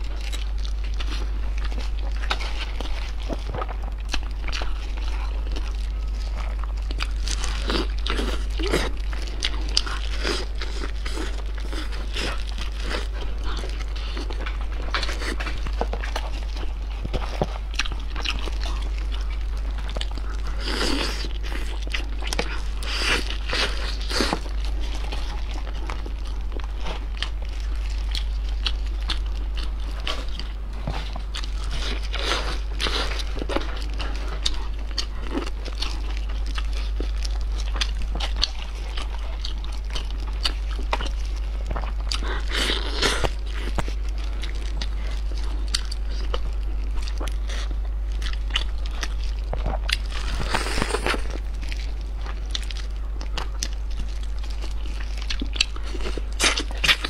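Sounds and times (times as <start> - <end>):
chewing: 0.0 - 57.0
roast chicken tearing and crunching: 0.0 - 57.0
steady low hum: 0.0 - 57.0.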